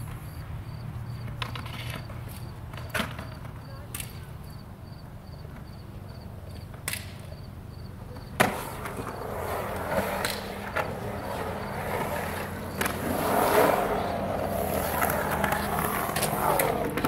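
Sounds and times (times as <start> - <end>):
skateboard wheels rolling on concrete: 0.0 - 17.0
skateboard clacking on concrete: 1.2 - 4.4, 5.4 - 17.0.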